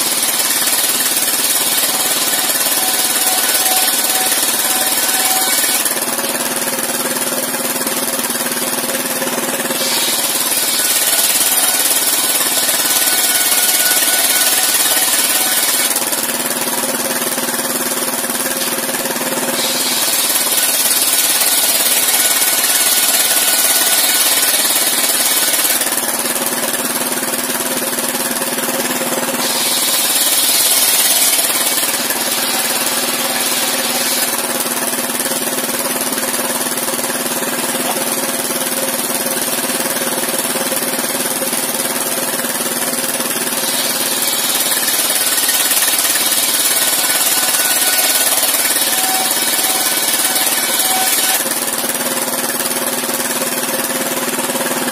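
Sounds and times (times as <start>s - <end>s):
circular saw ripping planks: 0.0s - 8.8s, 9.4s - 40.4s, 41.0s - 54.8s
saw blade spinning hum: 0.0s - 54.9s
saw engine running: 0.0s - 54.9s.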